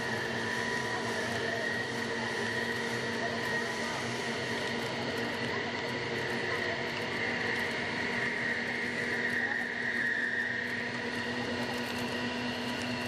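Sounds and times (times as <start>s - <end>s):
machinery humming with high whine: 0.0s - 13.0s.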